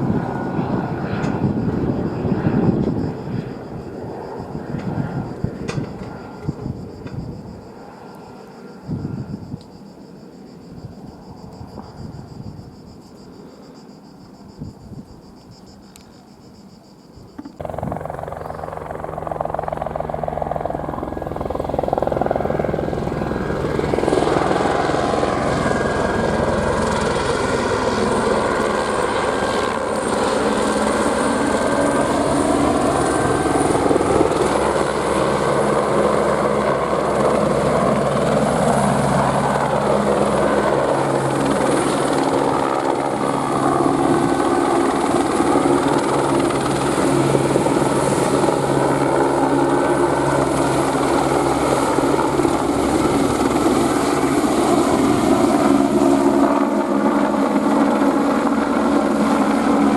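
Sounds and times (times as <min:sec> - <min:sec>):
helicopter rotor beat: 0:00.0 - 0:13.5, 0:17.2 - 0:59.9
helicopter turbine whine: 0:00.0 - 0:59.9.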